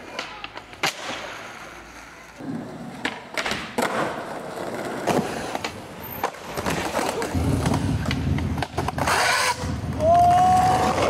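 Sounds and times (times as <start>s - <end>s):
skateboard clacking on concrete: 0.0s - 11.0s
skateboard wheels rolling: 0.0s - 11.0s.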